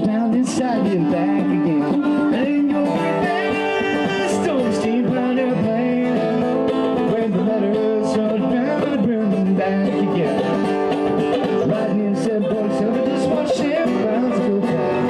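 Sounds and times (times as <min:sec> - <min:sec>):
bluegrass on mandolin and guitar: 0:00.0 - 0:15.0
man singing: 0:00.0 - 0:15.0.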